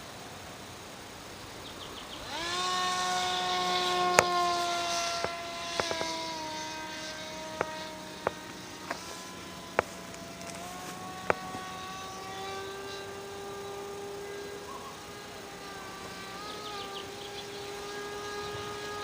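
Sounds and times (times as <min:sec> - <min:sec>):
model airplane motor whine: 0:00.0 - 0:19.0.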